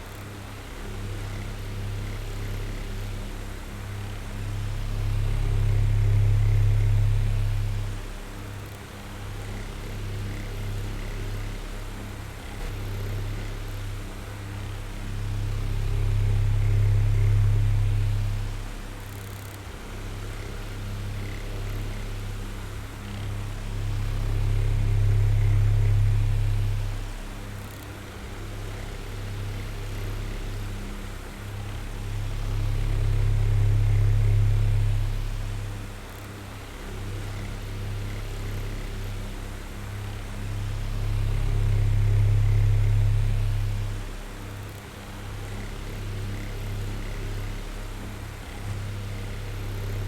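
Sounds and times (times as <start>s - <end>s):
electric fan running: 0.0s - 50.0s.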